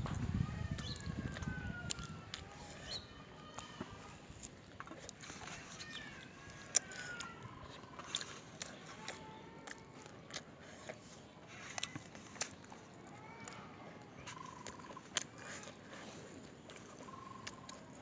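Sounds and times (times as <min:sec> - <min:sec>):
chewing mouth noises: 0:00.0 - 0:18.0.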